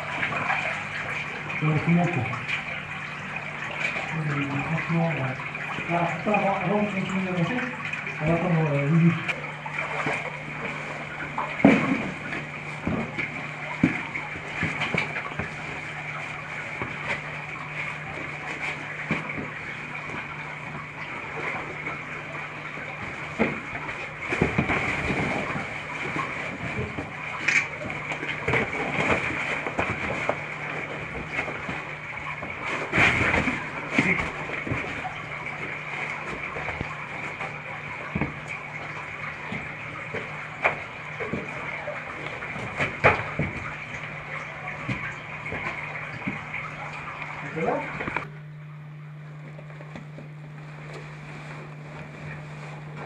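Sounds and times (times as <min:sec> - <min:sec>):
knocks scrapes and splashes: 0:00.0 - 0:48.3
steady low hum: 0:00.0 - 0:53.0.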